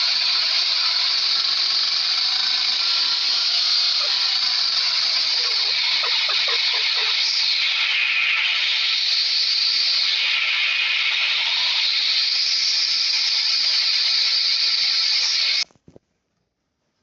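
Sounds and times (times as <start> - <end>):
loud steady hiss: 0.0 - 15.7.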